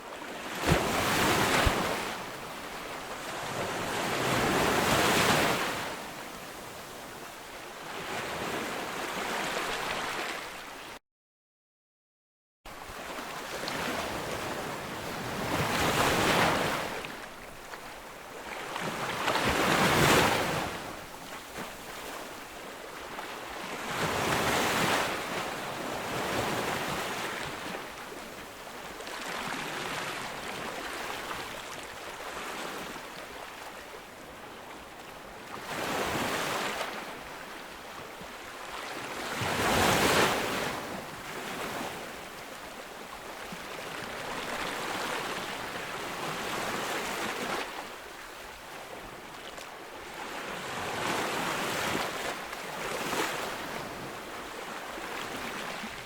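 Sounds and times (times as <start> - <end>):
ocean waves breaking on beach: 0.0 - 10.8, 12.7 - 56.0.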